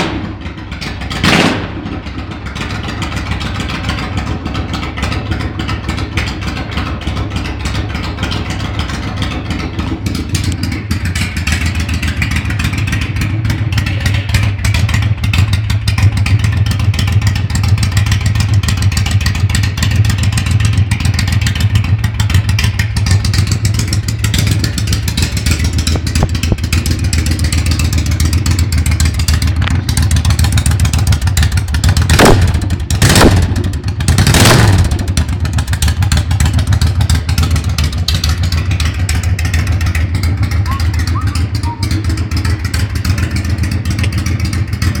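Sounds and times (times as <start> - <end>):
motorcycle throttle blips: 0.0 - 17.8, 21.4 - 45.0
motorcycle engine idling: 0.0 - 45.0.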